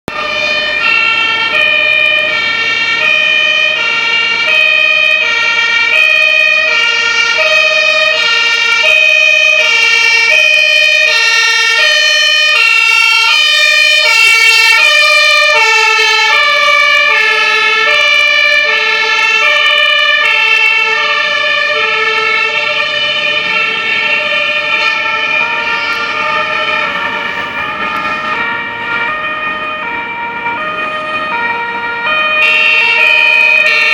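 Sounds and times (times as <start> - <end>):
two-tone siren: 0.1 - 33.9.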